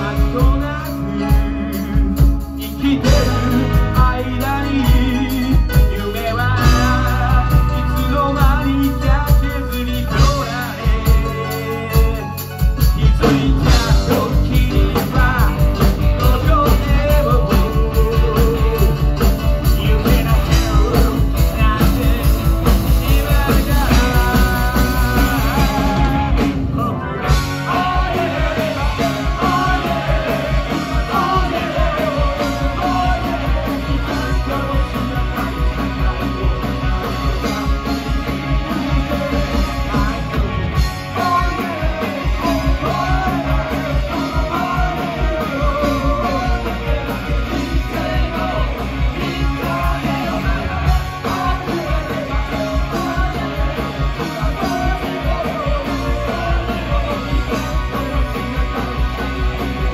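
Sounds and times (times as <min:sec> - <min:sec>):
bass guitar: 0:00.0 - 0:59.9
drums beating: 0:00.0 - 0:59.9
electric guitars: 0:00.0 - 0:59.9
man singing: 0:00.0 - 0:59.9.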